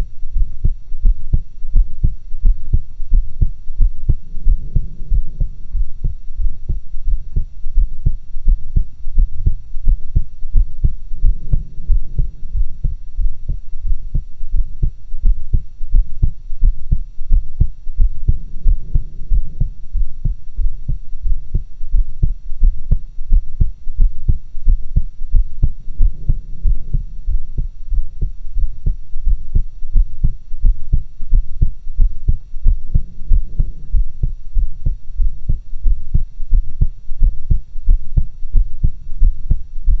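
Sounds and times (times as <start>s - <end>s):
heartbeat thumps: 0.0s - 40.0s.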